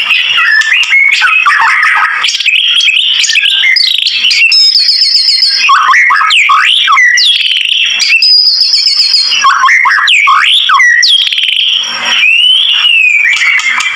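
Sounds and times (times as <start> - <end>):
bird singing whistled phrases: 0.0 - 13.9.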